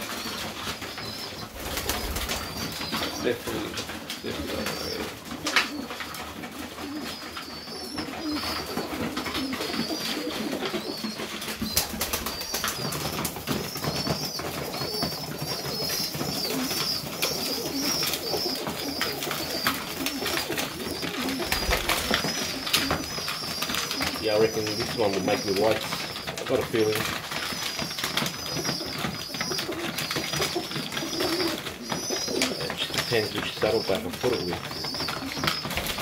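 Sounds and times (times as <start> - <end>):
pigeons cooing: 0.0 - 36.0.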